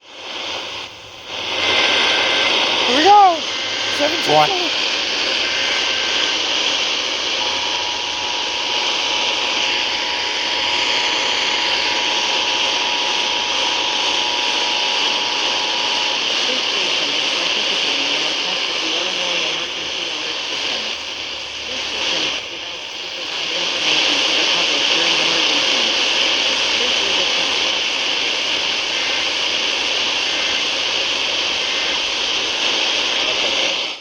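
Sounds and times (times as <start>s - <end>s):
radio static hiss: 0.0s - 34.0s.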